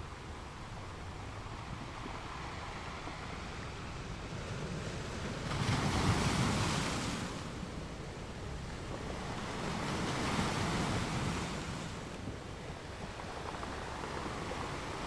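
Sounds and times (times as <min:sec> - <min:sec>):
ocean surf washing: 0:00.0 - 0:15.0
wind rumbling on microphone: 0:00.0 - 0:15.0.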